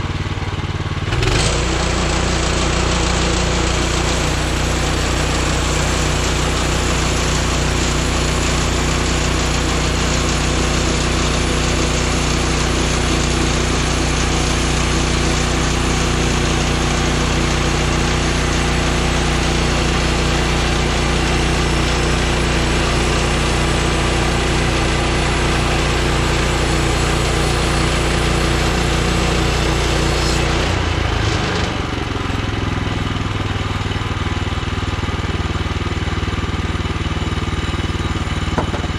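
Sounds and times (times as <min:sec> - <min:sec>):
band sawmill engine running: 0:00.0 - 0:38.9.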